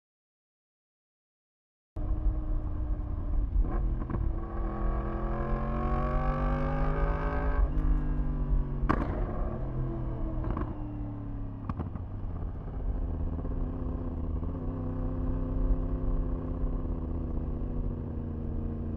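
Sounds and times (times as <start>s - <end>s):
motorcycle engine revving: 2.0s - 18.9s.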